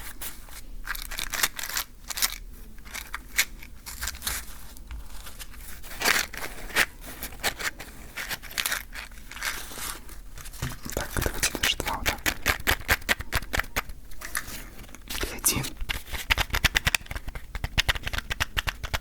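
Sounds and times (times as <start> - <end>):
wooden matches scratching and clicking: 0.9 - 10.0, 10.8 - 19.0.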